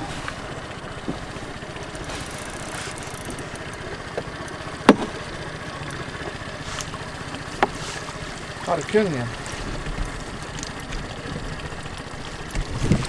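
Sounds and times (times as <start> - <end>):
small boat motor idling: 0.0 - 13.0
water lapping: 0.0 - 13.0.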